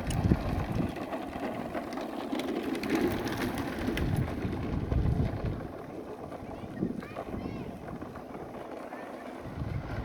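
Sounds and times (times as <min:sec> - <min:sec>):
toy truck wheels rolling: 0:00.0 - 0:10.0.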